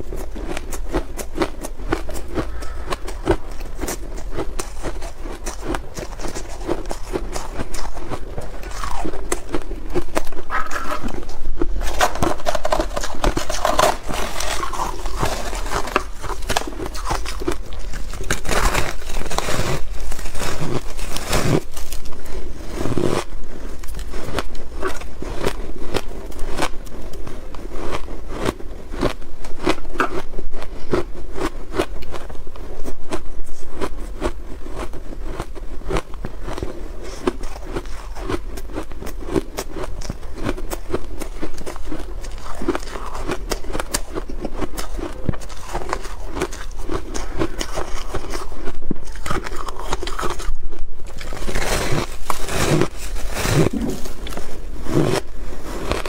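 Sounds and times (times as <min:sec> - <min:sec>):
ice crunching between teeth: 0:00.0 - 0:56.0.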